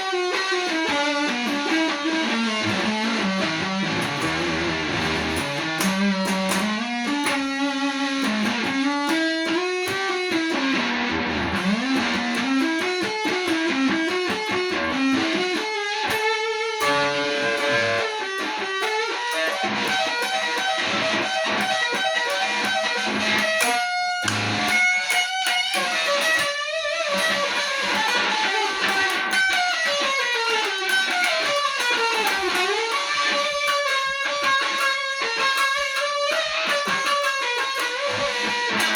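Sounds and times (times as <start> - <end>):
electric guitar blues-rock solo: 0.0 - 38.9.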